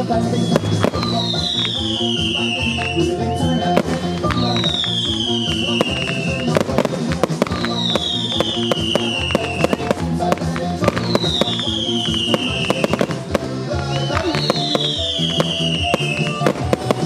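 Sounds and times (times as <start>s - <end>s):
firework bangs and crackles: 0.0s - 17.0s
loud recorded music: 0.0s - 17.0s.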